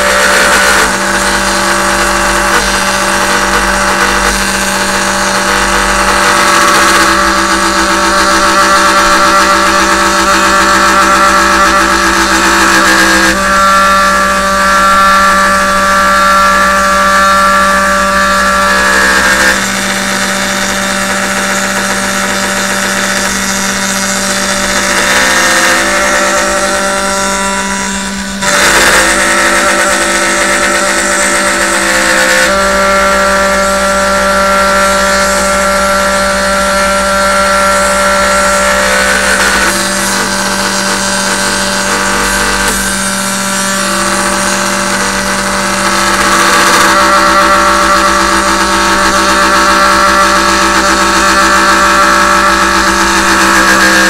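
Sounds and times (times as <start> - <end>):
router spindle hum: 0.0 - 54.0
router whining while cutting wood: 0.0 - 54.0.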